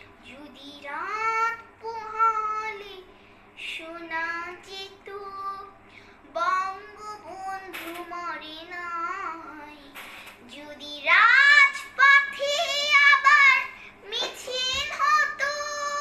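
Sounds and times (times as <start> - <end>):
girl singing unaccompanied: 0.0 - 16.0.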